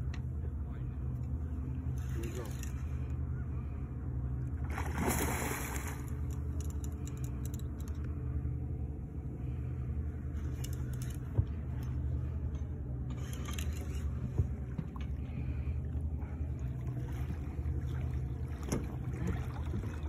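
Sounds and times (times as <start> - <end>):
boat engine idling: 0.0 - 5.0, 5.6 - 20.0.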